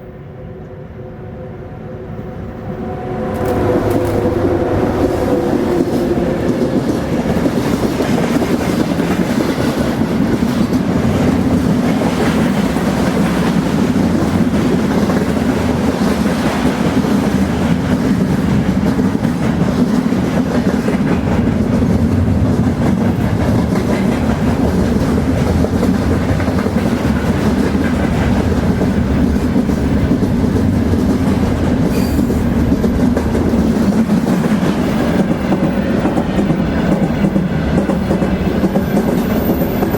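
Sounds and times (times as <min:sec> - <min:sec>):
train rumbling on track: 0:00.0 - 0:39.9.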